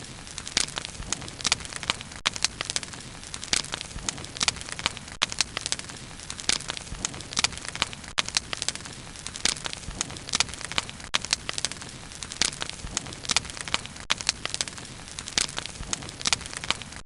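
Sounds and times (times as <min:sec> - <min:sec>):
bonfire crackling and popping: 0:00.0 - 0:17.0
low fire hiss: 0:00.0 - 0:17.0.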